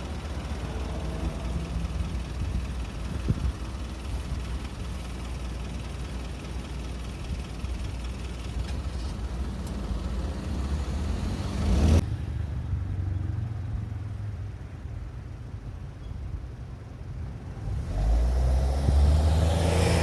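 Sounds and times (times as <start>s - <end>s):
cars passing: 0.0s - 14.8s, 17.4s - 20.0s.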